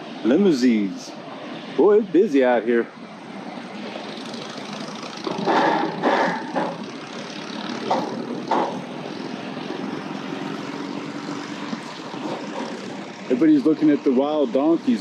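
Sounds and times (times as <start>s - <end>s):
motorcycle engines passing: 0.0s - 15.0s.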